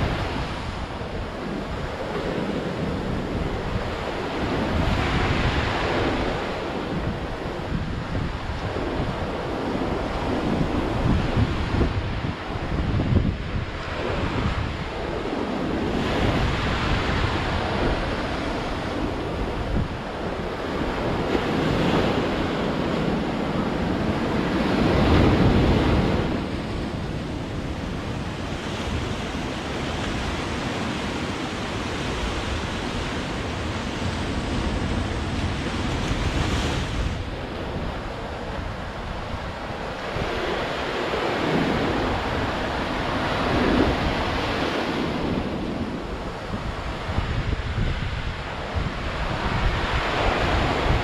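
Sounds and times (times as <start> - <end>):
sea waves breaking on shore: 0.0 - 51.0
wind rumble on microphone: 0.0 - 51.0.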